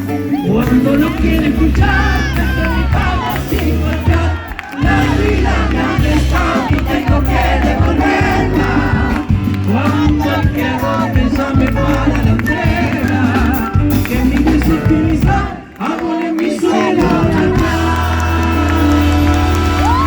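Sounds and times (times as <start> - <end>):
live band playing: 0.0 - 20.0
person singing: 0.0 - 20.0.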